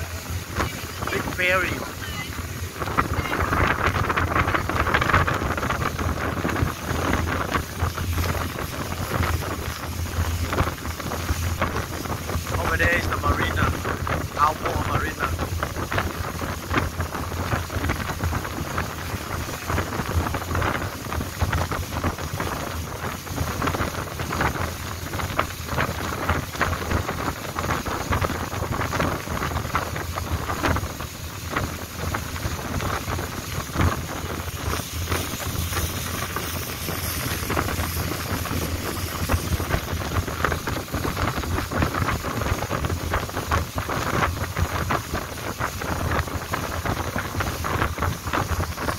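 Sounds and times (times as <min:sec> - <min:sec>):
boat engine drone: 0:00.0 - 0:48.9
water rushing past hull: 0:00.0 - 0:48.9
wind buffeting microphone: 0:00.0 - 0:48.9.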